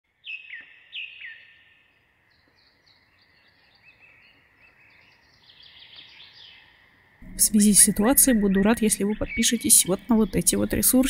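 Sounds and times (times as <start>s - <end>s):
chorus of high bird chirps: 0.2s - 11.0s.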